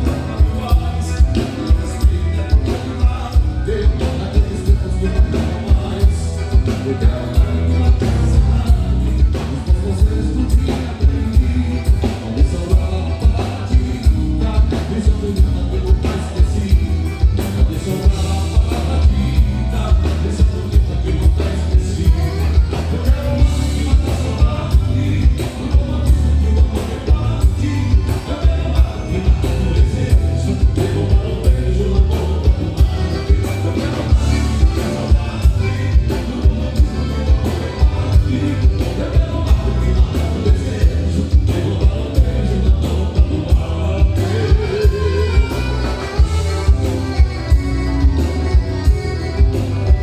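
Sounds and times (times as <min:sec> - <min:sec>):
live folk band playing: 0:00.0 - 0:50.0.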